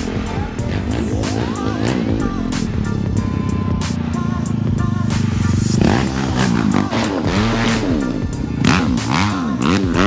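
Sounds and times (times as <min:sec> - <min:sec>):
atv engine revving: 0:00.0 - 0:10.0
music with a beat: 0:00.0 - 0:10.0.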